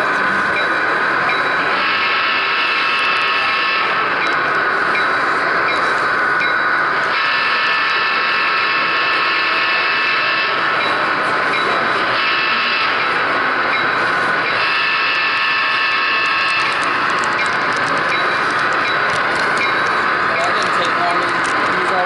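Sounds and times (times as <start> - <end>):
wheels on rails: 0.0 - 22.0
model train motor whine: 1.6 - 22.0.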